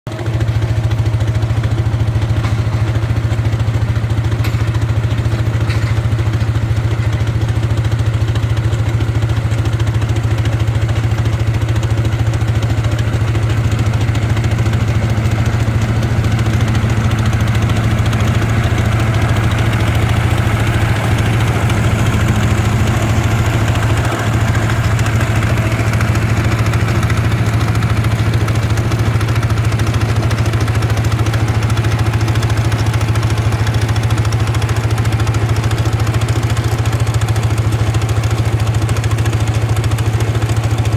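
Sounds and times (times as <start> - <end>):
tractor engine humming: 0.1 - 40.9.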